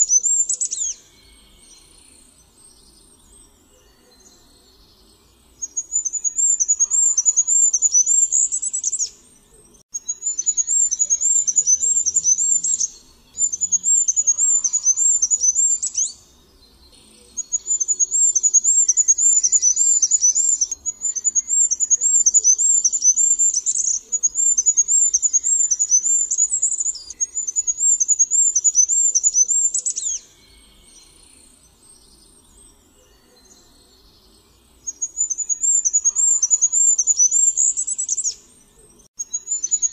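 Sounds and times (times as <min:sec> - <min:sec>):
bird singing high-pitched notes: 0:00.0 - 0:39.9.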